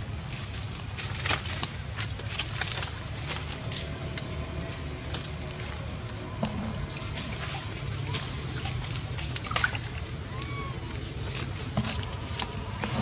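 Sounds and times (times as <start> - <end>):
water splashing in a jar: 0.9 - 13.0.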